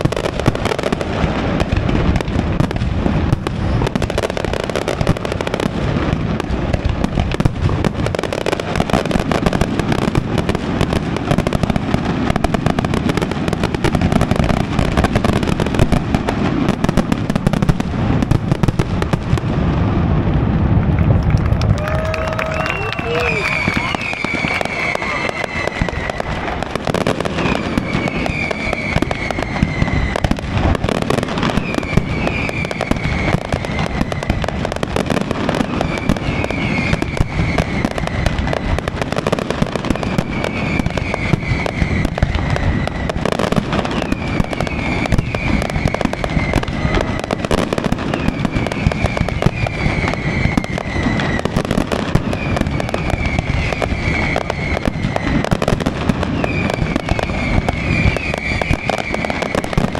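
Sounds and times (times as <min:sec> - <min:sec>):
falling firework whistle: 0:00.0 - 0:18.9, 0:19.8 - 0:59.9
fireworks bangs and crackles: 0:00.0 - 0:59.9.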